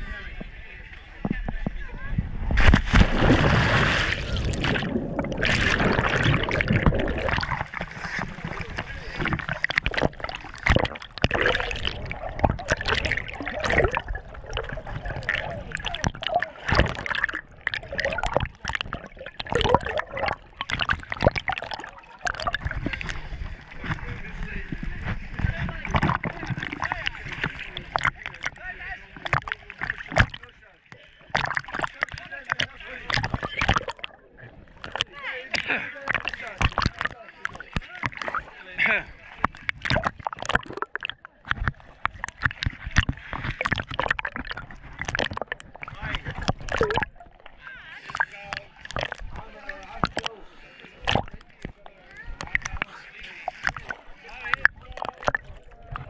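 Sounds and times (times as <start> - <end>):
underwater bubbling and gurgling: 0.0 - 56.0
clicks and crackles of bubbles: 2.4 - 56.0.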